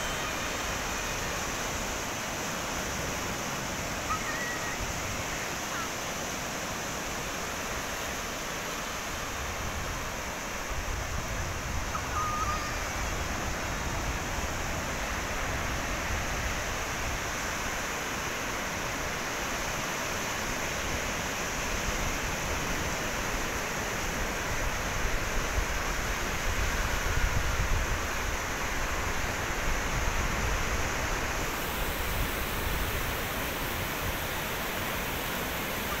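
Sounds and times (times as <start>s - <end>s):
ocean surf breaking on beach: 0.0s - 36.0s.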